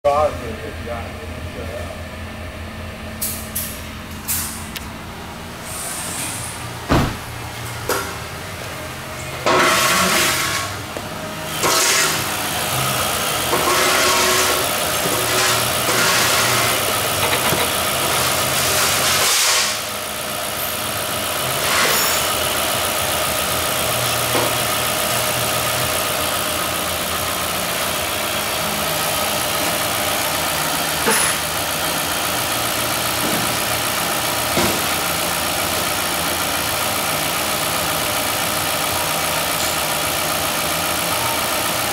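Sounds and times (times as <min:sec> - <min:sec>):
car engine running and idling: 0:00.1 - 0:41.9.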